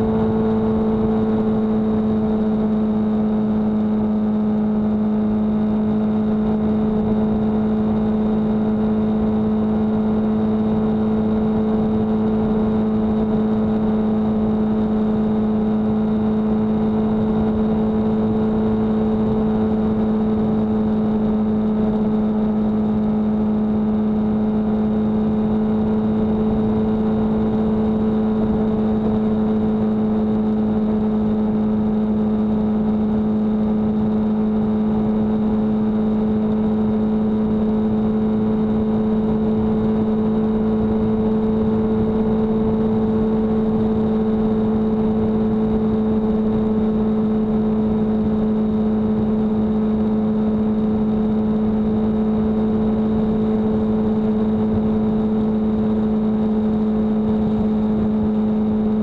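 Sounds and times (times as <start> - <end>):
car humming drone: 0.0 - 59.0
road and tyre noise: 0.0 - 59.0.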